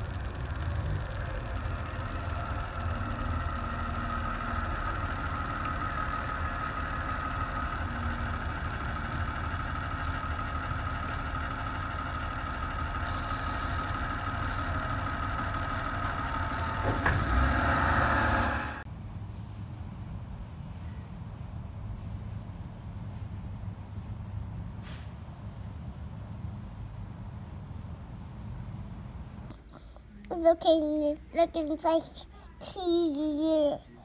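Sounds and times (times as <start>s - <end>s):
bus engine idling: 0.0s - 29.5s.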